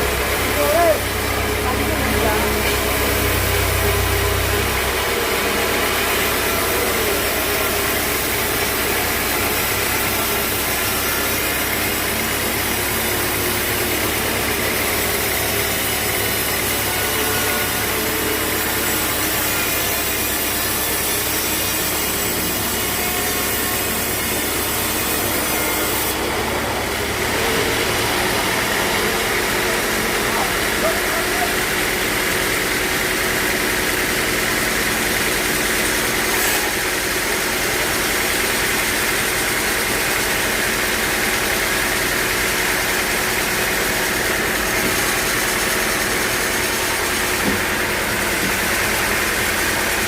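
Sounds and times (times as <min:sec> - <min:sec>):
engine running: 0:00.0 - 0:50.0
saw cutting through log: 0:00.0 - 0:50.0.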